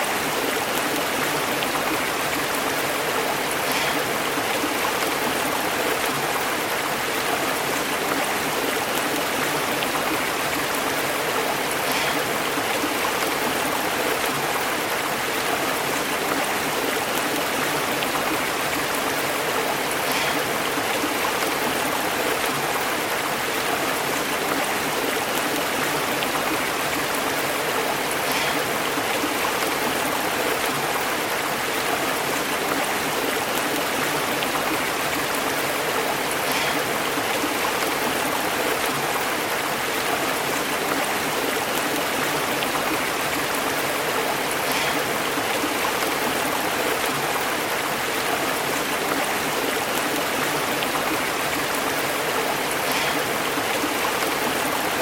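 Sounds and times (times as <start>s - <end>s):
stream bubbling over rocks: 0.0s - 55.0s.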